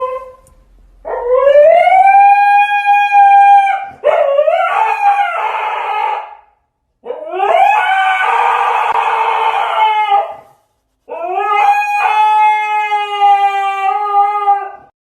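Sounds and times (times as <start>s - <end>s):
dog howling: 0.0s - 0.4s, 1.0s - 15.0s.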